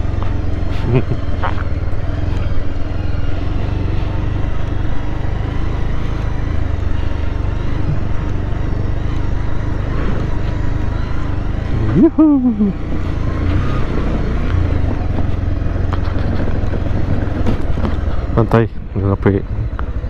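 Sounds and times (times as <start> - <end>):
constant noise: 0.0 - 20.0
motorcycle engine running: 0.0 - 20.0.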